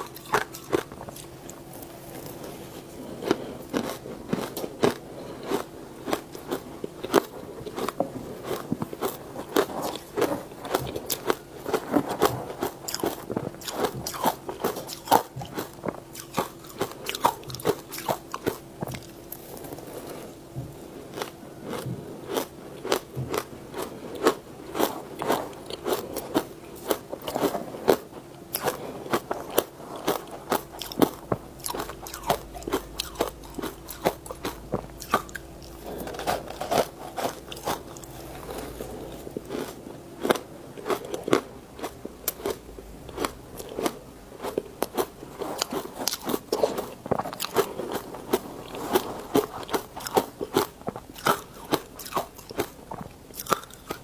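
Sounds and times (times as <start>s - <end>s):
person chewing ice: 0.0s - 54.0s.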